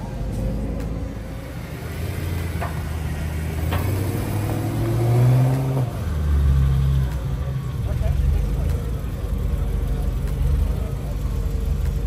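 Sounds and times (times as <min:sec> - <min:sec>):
car engine pulling away: 0:00.0 - 0:12.0.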